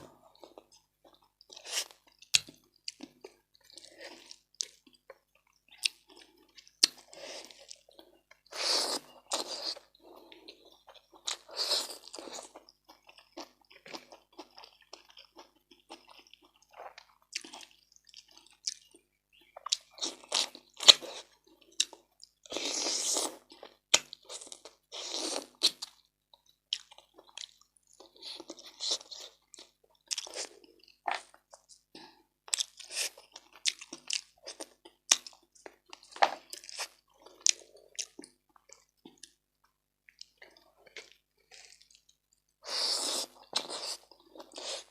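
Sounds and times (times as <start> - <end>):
person chewing and crunching: 0.2 - 44.9.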